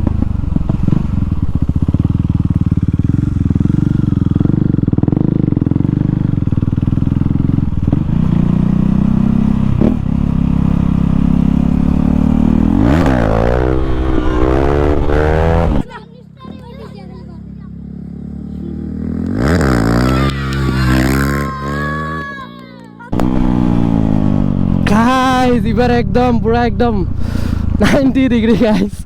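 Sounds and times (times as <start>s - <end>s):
motorcycle engine running unmuffled: 0.0s - 21.5s, 23.0s - 28.8s.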